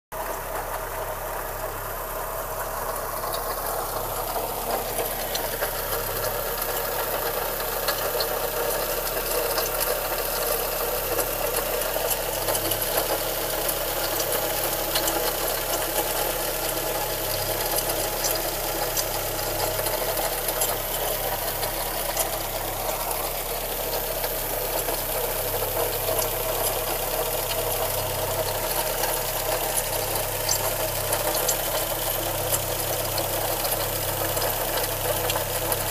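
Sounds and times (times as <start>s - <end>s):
car engine idling: 0.1s - 35.9s.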